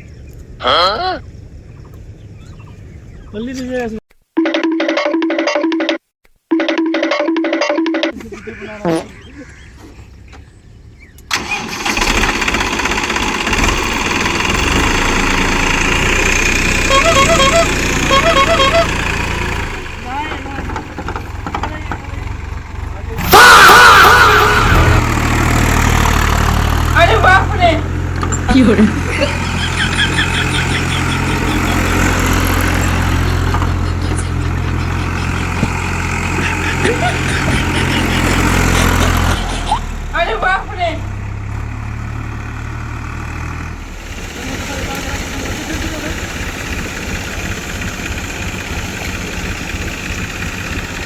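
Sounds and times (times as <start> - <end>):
tractor diesel engine running: 0.0 - 3.9, 9.2 - 51.0.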